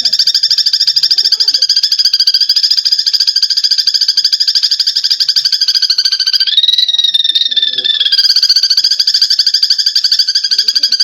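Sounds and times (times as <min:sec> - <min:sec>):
sparrow chattering: 0:00.0 - 0:11.0.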